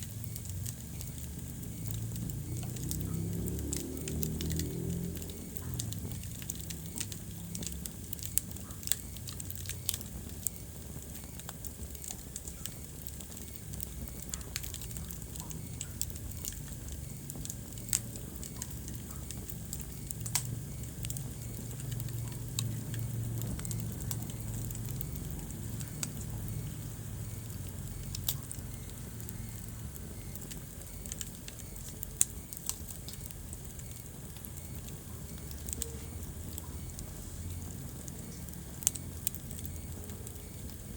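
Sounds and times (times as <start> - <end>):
burning logs crackling and popping: 0.0 - 40.9
rumble of flames: 0.0 - 40.9.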